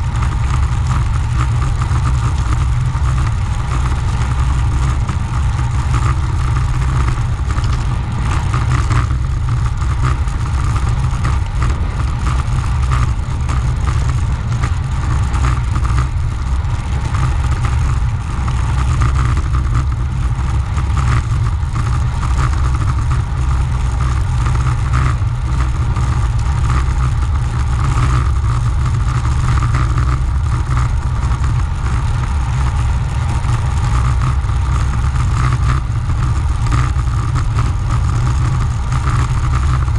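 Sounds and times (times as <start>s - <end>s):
high hum from bicycle ride: 0.0s - 39.9s
wind rumble on microphone: 0.0s - 39.9s.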